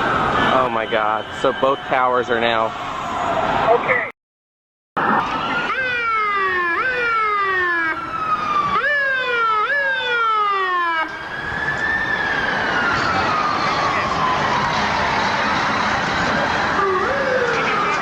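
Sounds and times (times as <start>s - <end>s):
emergency vehicle siren: 0.0s - 4.0s, 5.0s - 18.0s.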